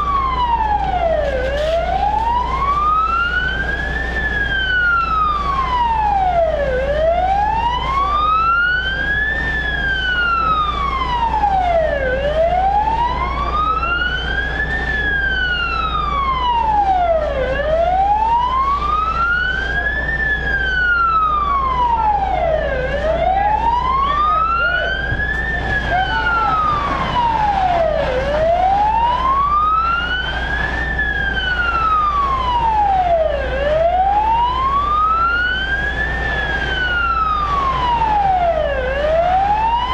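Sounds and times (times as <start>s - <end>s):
siren wailing: 0.0s - 39.9s.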